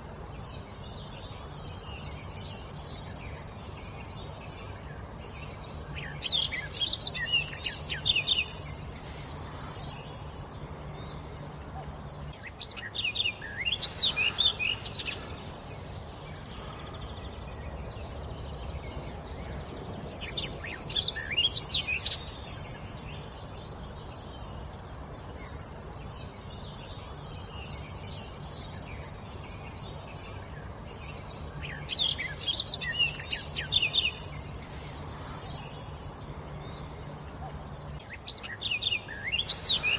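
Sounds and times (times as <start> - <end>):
low background hum: 0.0 - 39.9
songbird singing: 0.0 - 39.9.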